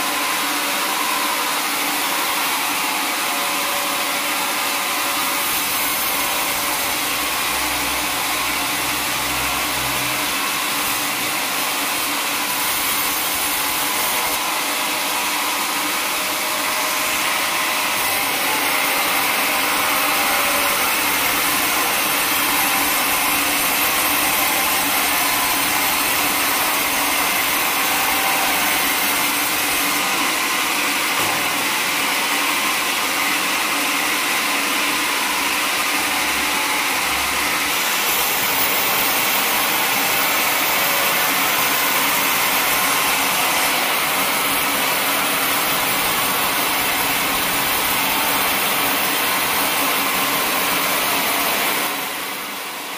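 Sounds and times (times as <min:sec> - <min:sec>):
band saw cutting log: 0:00.0 - 0:52.9.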